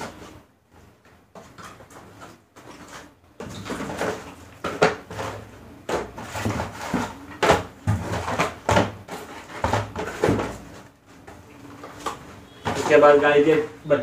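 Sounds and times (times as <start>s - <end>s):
cardboard boxes scraping and thumping: 1.4s - 13.3s.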